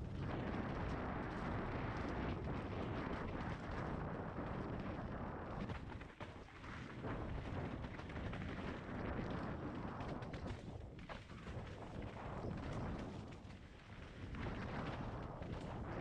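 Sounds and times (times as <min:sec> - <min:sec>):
bike rattling over rough ground: 0:00.0 - 0:16.0
wind rushing over microphone: 0:00.0 - 0:16.0.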